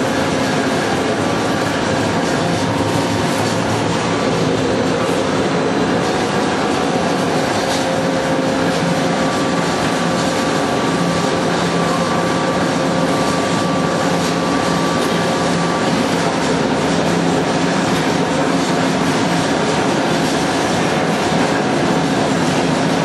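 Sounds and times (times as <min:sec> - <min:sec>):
pellet mill mechanical din: 0:00.0 - 0:23.0.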